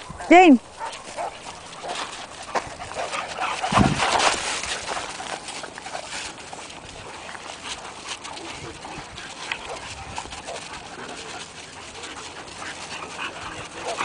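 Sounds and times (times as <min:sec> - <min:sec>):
dogs breathing and vocalizing: 0:00.0 - 0:14.0
paws scuffing on dirt: 0:00.0 - 0:14.0.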